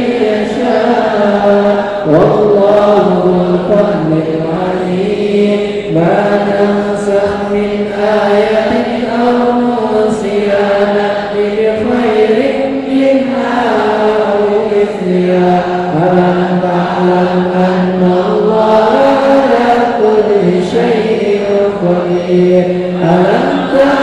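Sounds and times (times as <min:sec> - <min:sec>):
person chanting melodically: 0:00.0 - 0:24.0.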